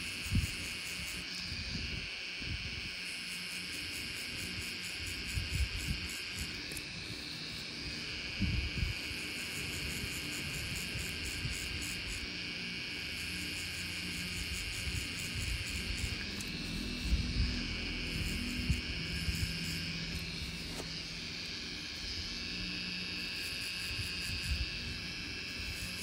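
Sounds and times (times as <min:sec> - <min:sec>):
tattoo machine buzzing: 0:00.0 - 0:26.0.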